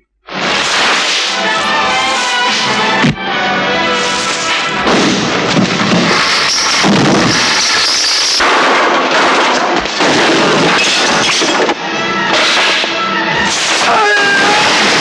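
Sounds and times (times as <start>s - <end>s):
bangs crashes and impacts: 0.3s - 3.3s, 4.2s - 15.0s.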